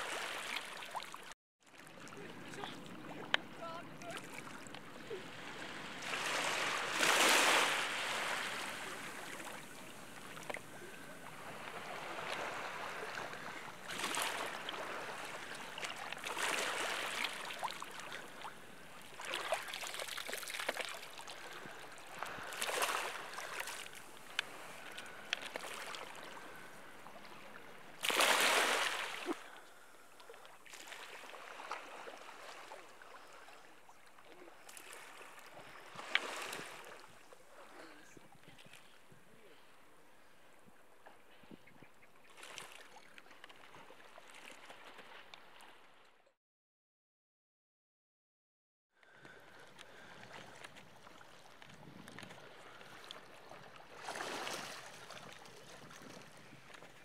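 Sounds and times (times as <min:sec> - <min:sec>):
seawater splashing and lapping: 0:00.0 - 0:46.2, 0:49.0 - 0:57.0.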